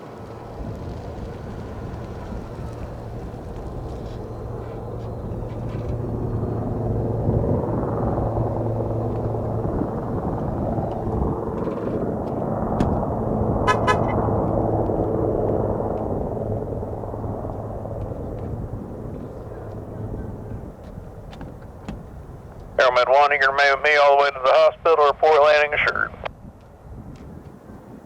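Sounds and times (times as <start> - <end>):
helicopter rotor and turbines: 0.0 - 28.0.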